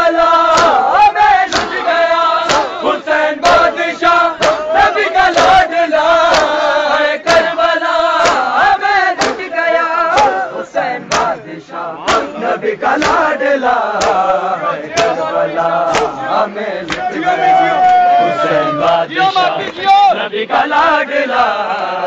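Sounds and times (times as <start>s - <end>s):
crowd of men chanting: 0.0s - 22.0s
rhythmic chest-beating: 0.0s - 22.0s.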